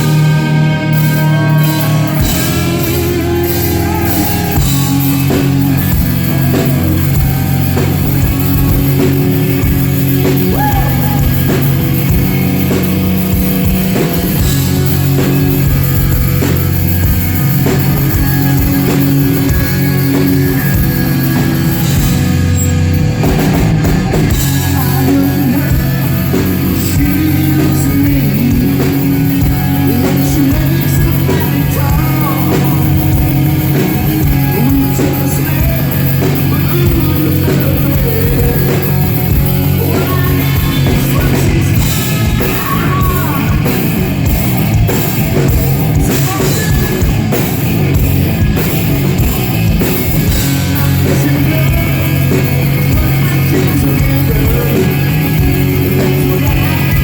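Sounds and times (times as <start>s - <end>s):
live hard rock band playing: 0.0s - 57.0s.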